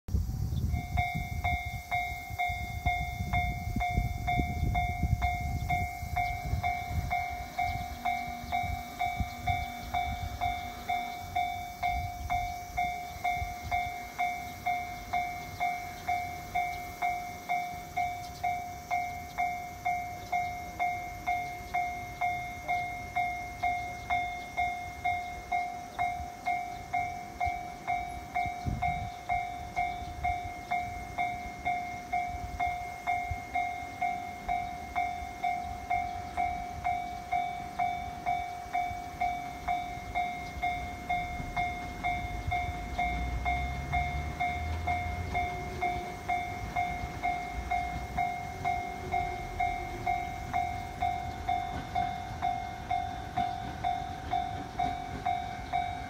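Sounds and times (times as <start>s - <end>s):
level-crossing warning bell ringing: 0.2s - 56.0s.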